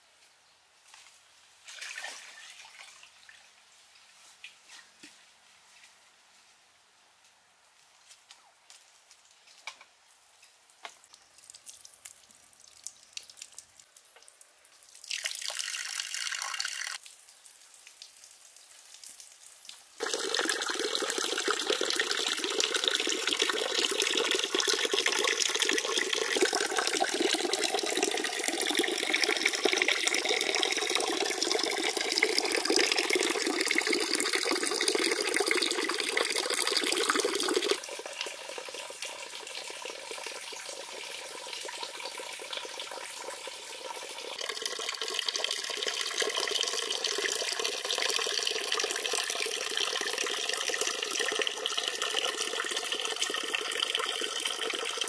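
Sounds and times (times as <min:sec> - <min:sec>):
water splashing into pond: 0:01.6 - 0:03.5, 0:11.0 - 0:55.0.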